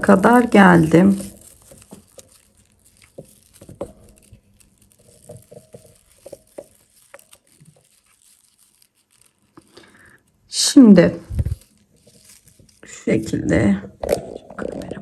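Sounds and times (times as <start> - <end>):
paper yarn rustling and crinkling: 0.0 - 14.5.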